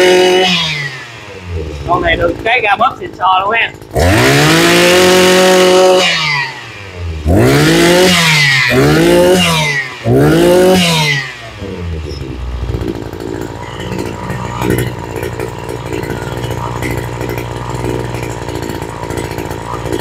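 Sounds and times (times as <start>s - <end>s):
brush cutter engine revving: 0.0s - 20.0s.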